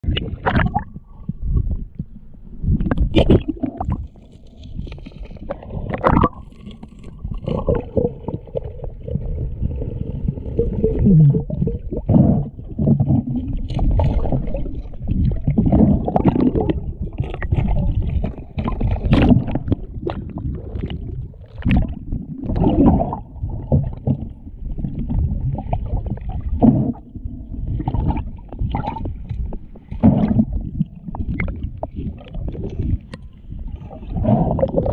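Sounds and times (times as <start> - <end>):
water rushing underwater: 0.0 - 34.9.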